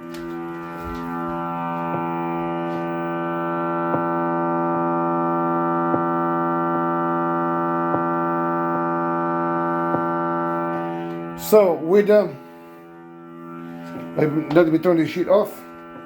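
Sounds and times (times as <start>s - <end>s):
amp speaker buzzing drone: 0.0s - 16.0s.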